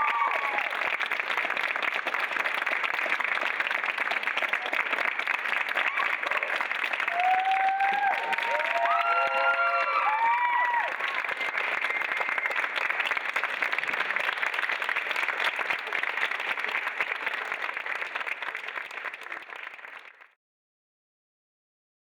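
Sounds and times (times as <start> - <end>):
audience applauding: 0.0 - 20.4.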